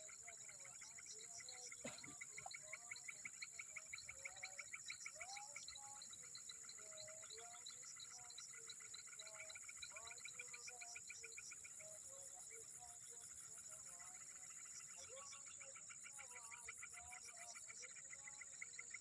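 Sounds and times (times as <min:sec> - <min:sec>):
rapid pulsed insect calls: 0:00.0 - 0:19.0.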